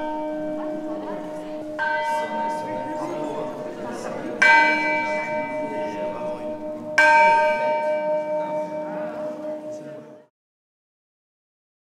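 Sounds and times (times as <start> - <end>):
church bell ringing: 0.0 - 10.3.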